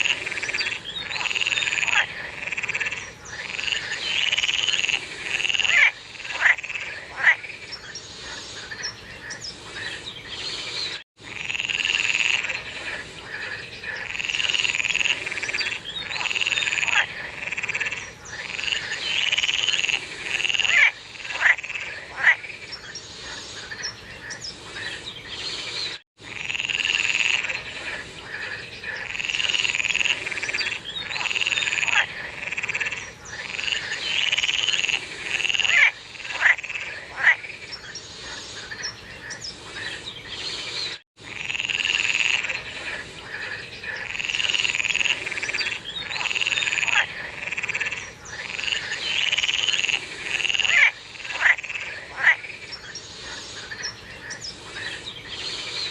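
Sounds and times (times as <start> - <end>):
frogs croaking: 0.0 - 25.6, 26.2 - 40.6, 41.2 - 55.9.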